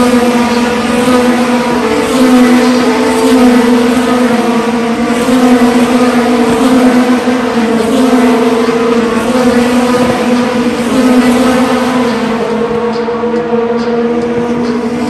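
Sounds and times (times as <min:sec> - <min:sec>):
race car engines at high revs: 0:00.0 - 0:15.0.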